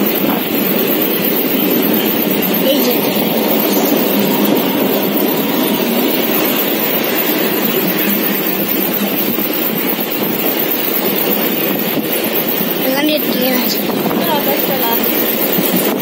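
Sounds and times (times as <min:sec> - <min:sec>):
rushing air: 0:00.0 - 0:16.0
wheels running on track: 0:00.0 - 0:16.0.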